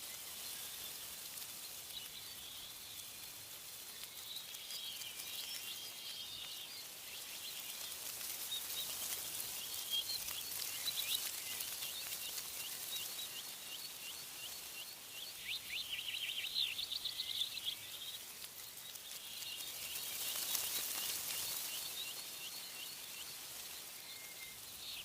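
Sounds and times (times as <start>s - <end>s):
songbirds chirping and singing: 0.0s - 25.0s
wind in tree leaves: 0.0s - 25.0s.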